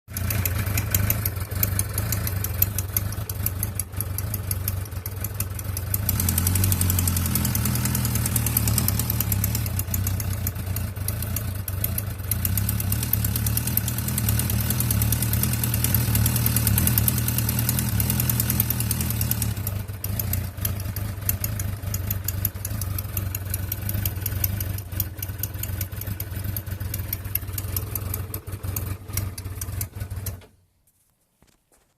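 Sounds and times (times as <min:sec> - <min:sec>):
motorcycle engine idling: 0:00.1 - 0:30.6
ticking engine clatter: 0:00.1 - 0:30.6.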